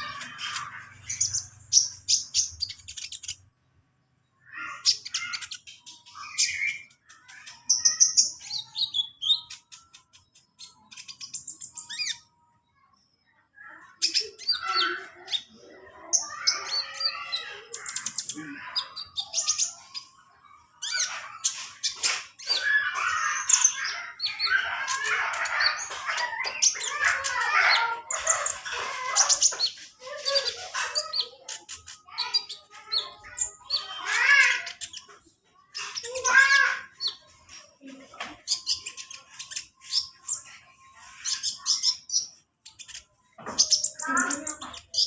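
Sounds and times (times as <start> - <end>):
sunbird chirping and trilling: 0.0 - 45.0.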